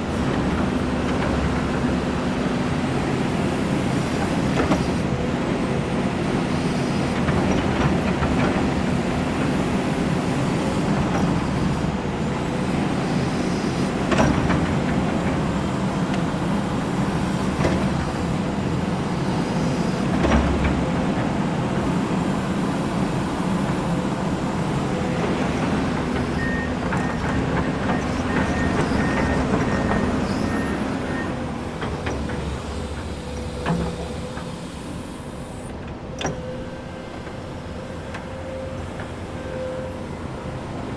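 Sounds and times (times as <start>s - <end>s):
excavator engine running: 0.0s - 40.9s.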